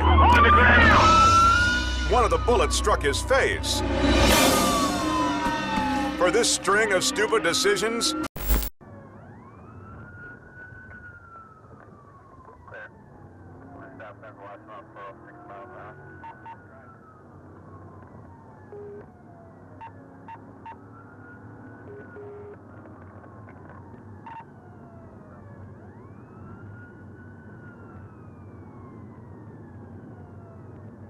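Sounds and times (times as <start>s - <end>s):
higher pitched siren: 0.0s - 6.3s, 7.8s - 22.7s, 23.3s - 30.7s
police sirens wailing: 0.0s - 31.0s.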